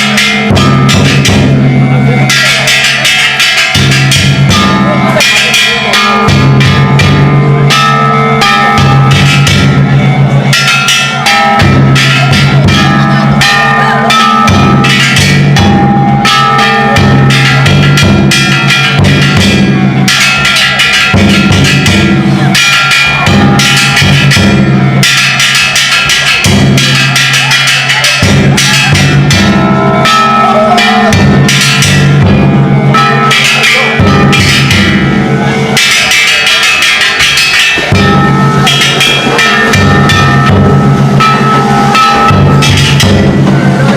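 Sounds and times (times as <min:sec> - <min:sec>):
big taiko drum beating: 0:00.0 - 0:43.9
hand gongs clanging: 0:00.0 - 0:43.9.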